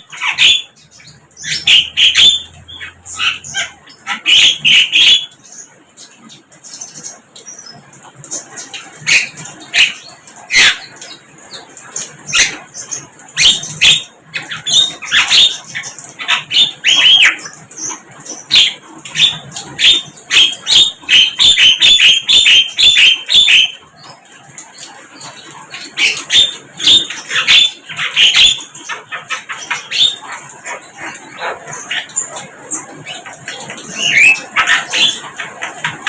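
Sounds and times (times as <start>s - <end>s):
bird chirping: 0.0s - 23.9s, 25.2s - 36.0s.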